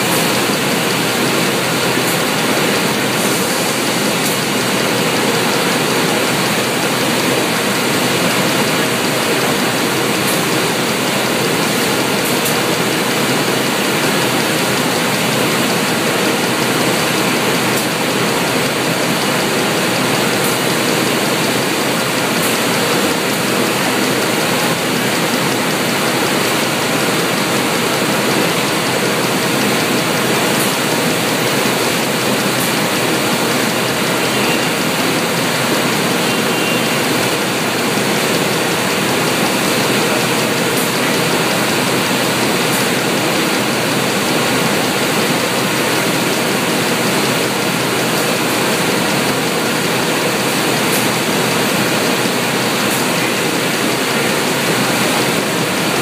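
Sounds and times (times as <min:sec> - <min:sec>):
factory machinery hiss and rumble: 0:00.0 - 0:56.0.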